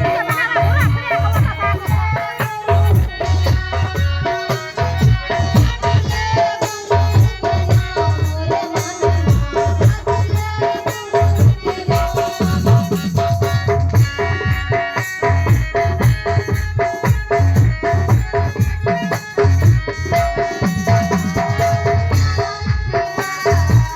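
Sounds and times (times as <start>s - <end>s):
song with drums and percussion: 0.0s - 23.9s.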